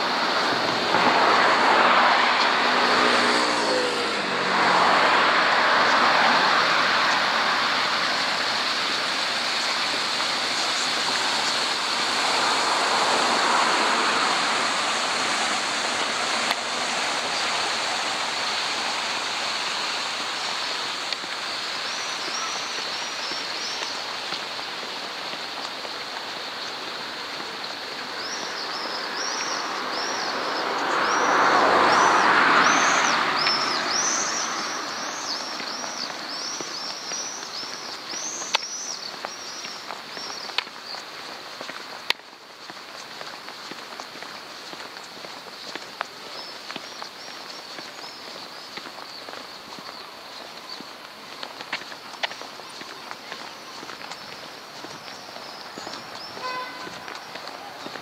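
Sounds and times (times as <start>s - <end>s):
road traffic: 0.0s - 58.0s
small birds chirping: 5.8s - 58.0s.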